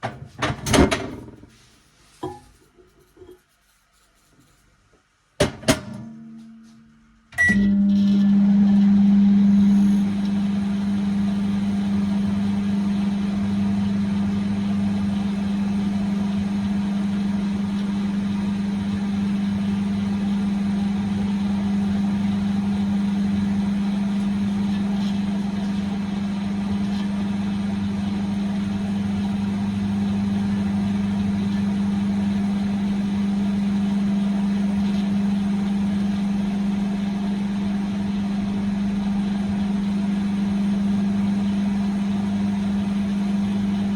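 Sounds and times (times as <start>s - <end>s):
microwave oven humming: 5.4s - 43.9s.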